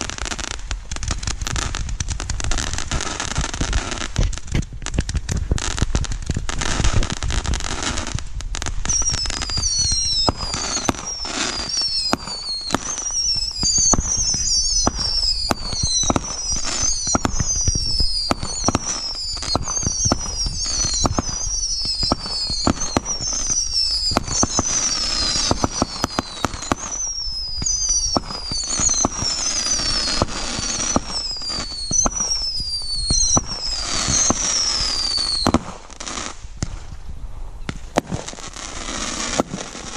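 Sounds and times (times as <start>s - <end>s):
fireworks bangs and crackling: 0.0s - 39.9s
fireworks whistles falling in pitch: 6.5s - 37.0s, 37.6s - 39.9s.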